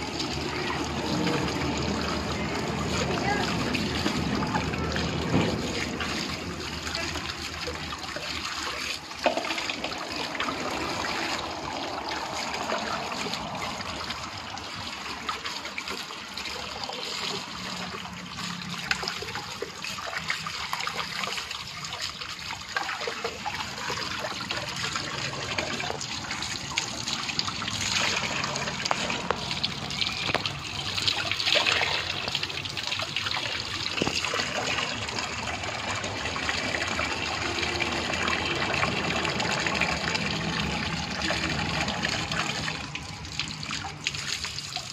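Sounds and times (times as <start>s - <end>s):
water pouring into plastic bucket: 0.0s - 44.9s
water splashing: 0.0s - 44.9s.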